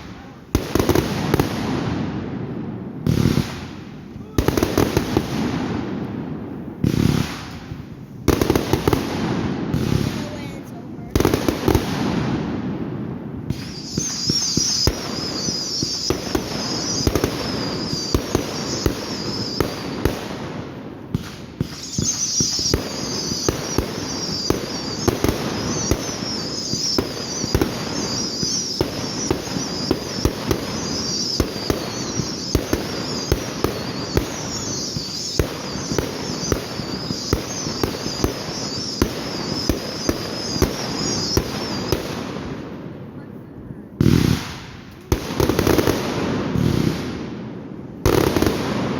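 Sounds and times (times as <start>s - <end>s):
fireworks banging: 0.0s - 43.2s, 44.0s - 48.9s.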